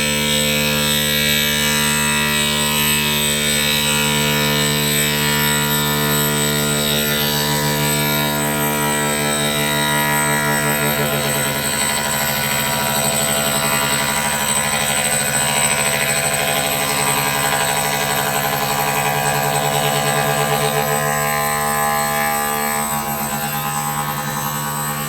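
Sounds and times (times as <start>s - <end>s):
high-pitched machine whine: 0.0s - 25.0s
machine mechanical drone: 0.0s - 25.0s.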